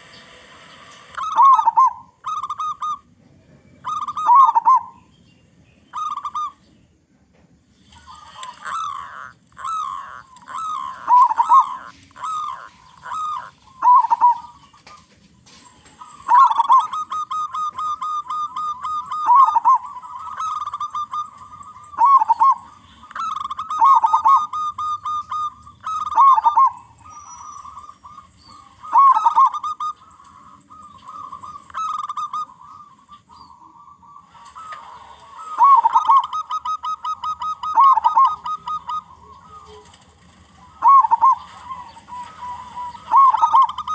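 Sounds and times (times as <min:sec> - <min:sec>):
dove cooing: 0:00.0 - 0:05.1, 0:05.9 - 0:06.7, 0:07.8 - 0:43.9.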